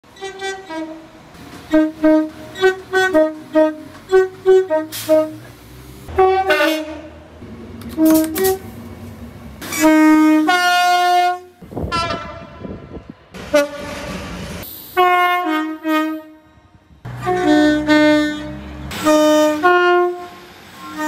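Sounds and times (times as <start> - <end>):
train horn short blasts: 0.1 - 5.5, 6.1 - 7.1, 7.9 - 8.7, 9.7 - 14.2, 15.0 - 21.0.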